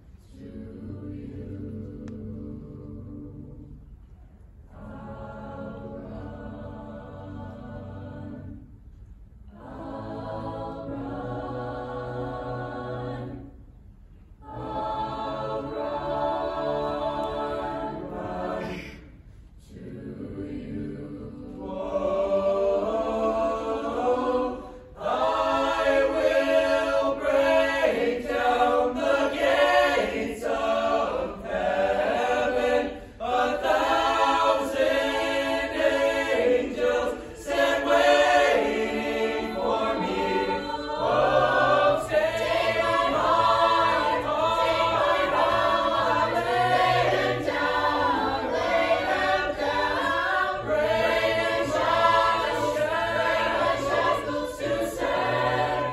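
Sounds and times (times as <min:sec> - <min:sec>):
choir of young voices singing: 0:00.0 - 0:04.0, 0:04.6 - 0:08.9, 0:09.5 - 0:55.9.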